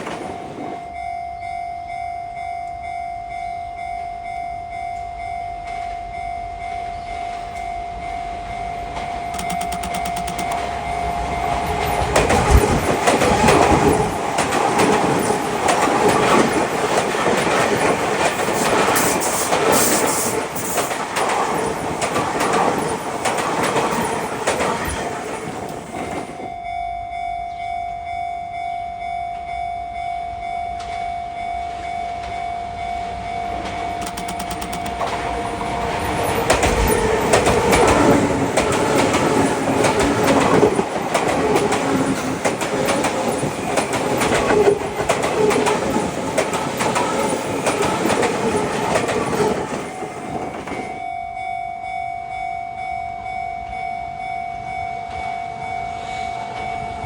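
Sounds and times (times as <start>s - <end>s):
train rumble and wheel clatter: 0.0s - 27.7s, 29.0s - 51.1s, 53.3s - 57.0s
level-crossing alarm ringing: 0.0s - 57.0s.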